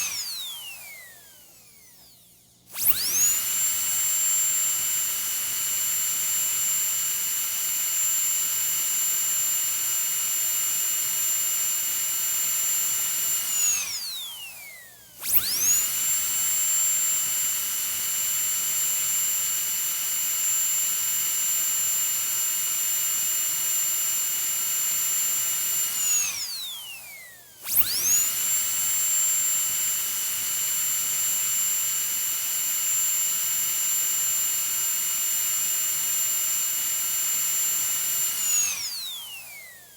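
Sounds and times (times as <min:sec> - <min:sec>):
dentist's drill whining: 0:00.0 - 0:39.9.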